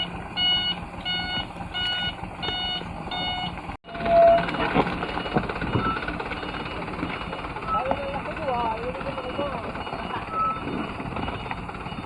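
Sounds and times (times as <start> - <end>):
truck reversing alarm beeping: 0.0 - 12.0
vehicle engine rumbling: 0.0 - 12.0.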